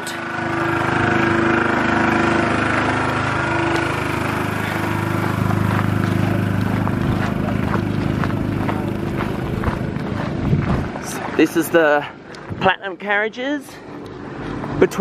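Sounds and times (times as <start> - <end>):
train diesel engine idling: 0.0 - 12.4.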